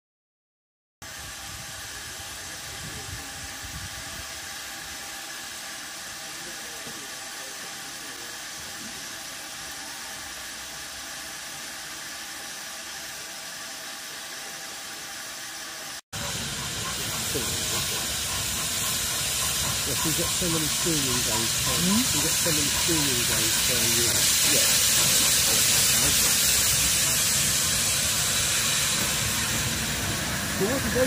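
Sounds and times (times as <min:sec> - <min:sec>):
steam hissing from locomotive: 0:01.0 - 0:31.0.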